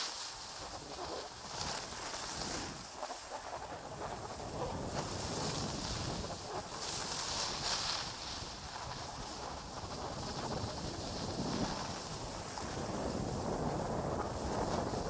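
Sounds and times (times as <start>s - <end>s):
skis scraping over snow: 0.0s - 15.0s
wind on microphone: 0.0s - 15.0s.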